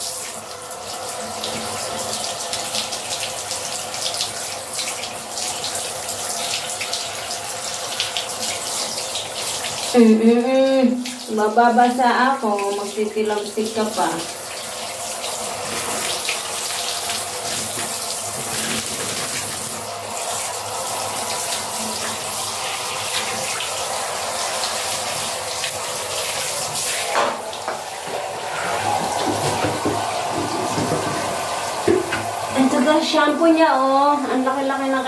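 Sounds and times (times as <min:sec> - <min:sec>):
shower water spraying on tiles: 0:00.0 - 0:35.0.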